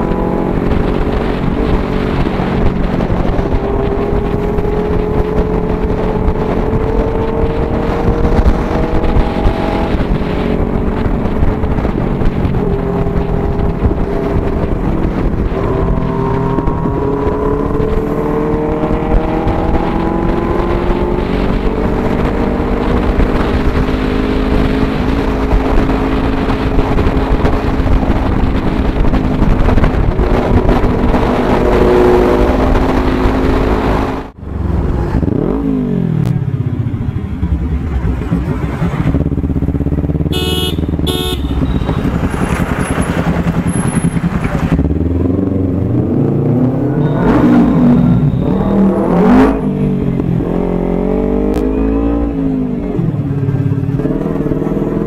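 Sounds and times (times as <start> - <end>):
motorcycle engines: 0.0 - 55.0.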